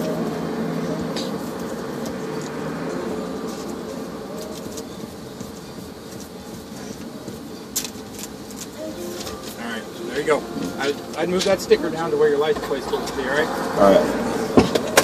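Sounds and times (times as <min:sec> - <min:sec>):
vehicle hum: 0:00.0 - 0:15.0.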